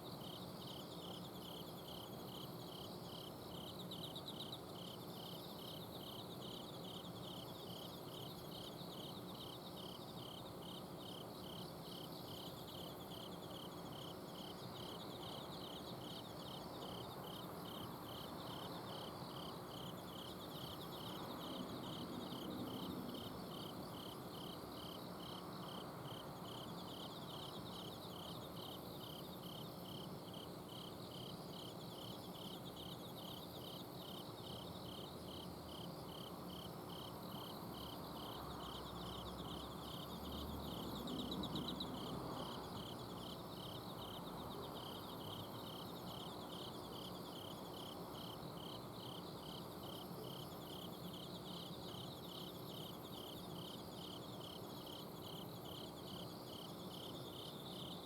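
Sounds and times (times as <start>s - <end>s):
faint high insect trills: 0.0s - 58.0s
insect chirping steadily: 0.0s - 58.0s.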